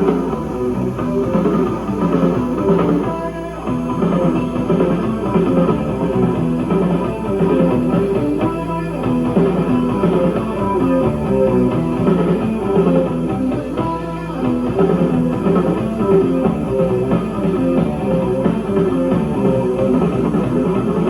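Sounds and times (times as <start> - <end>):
bass: 0.0 - 21.0
guitar: 0.0 - 21.0
rock band playing: 0.0 - 21.0.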